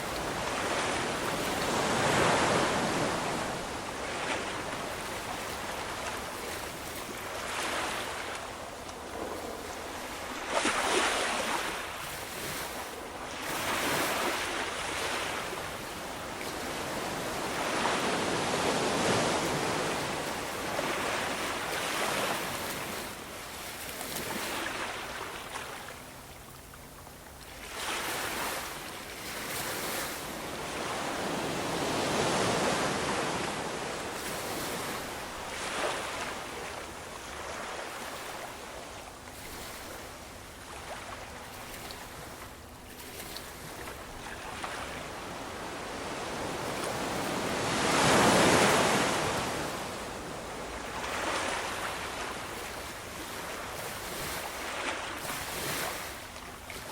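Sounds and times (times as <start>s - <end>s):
ocean waves breaking: 0.0s - 26.1s, 27.5s - 56.9s.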